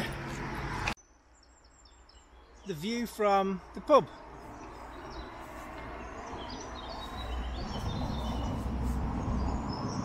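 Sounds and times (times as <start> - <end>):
small birds chirping and singing: 1.0 - 10.0.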